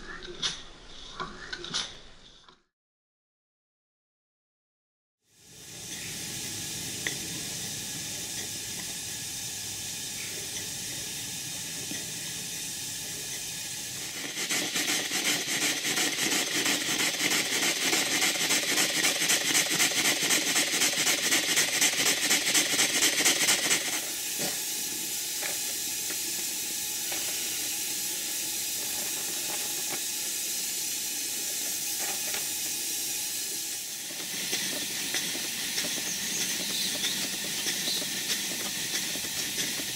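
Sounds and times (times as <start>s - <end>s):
steam engine exhaust beat: 5.3s - 39.9s
steam hissing: 5.3s - 39.9s.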